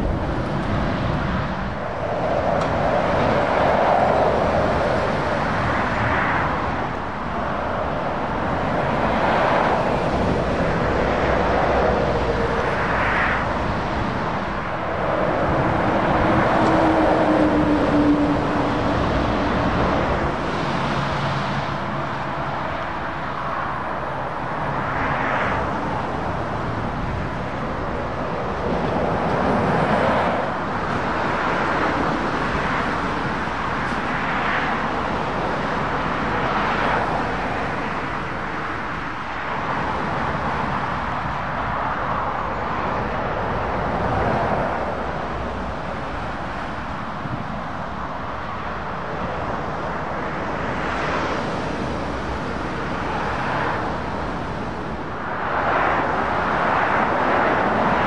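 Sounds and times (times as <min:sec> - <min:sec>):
lorry engine drone: 0:00.0 - 0:58.0
vehicles passing at speed: 0:00.0 - 0:58.0.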